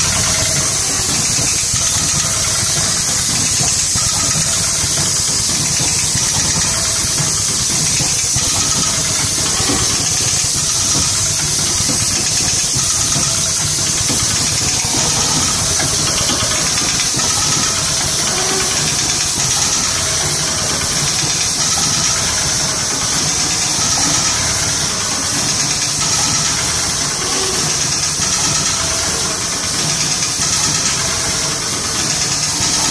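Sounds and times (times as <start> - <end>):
machine clatter and hum: 0.0 - 32.9.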